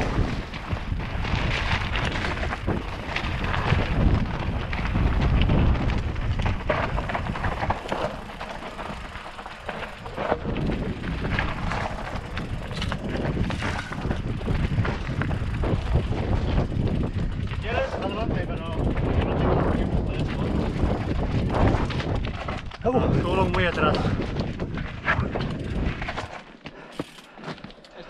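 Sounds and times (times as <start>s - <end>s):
wind rumbling on microphone: 0.0s - 26.4s
bike rattling: 0.0s - 28.0s.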